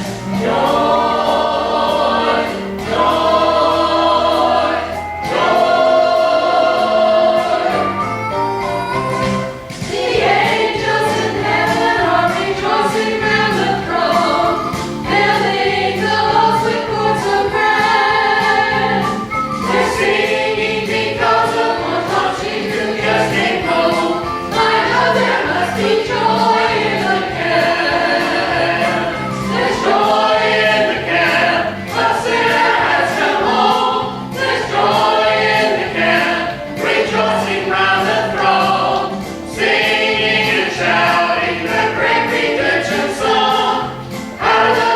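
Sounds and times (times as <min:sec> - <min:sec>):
group singing gospel song: 0:00.0 - 0:08.2, 0:09.2 - 0:44.9
piano accompaniment: 0:00.0 - 0:44.9.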